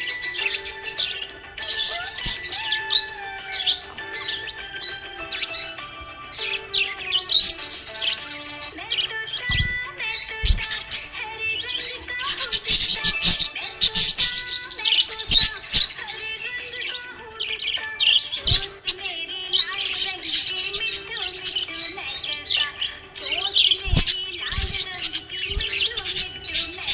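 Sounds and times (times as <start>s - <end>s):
parrots chirping and warbling: 0.0s - 26.9s.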